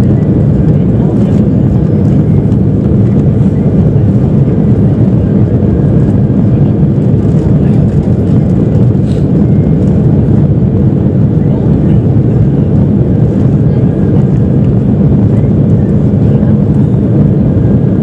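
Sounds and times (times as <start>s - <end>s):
jet airliner cabin rumble: 0.0s - 18.0s.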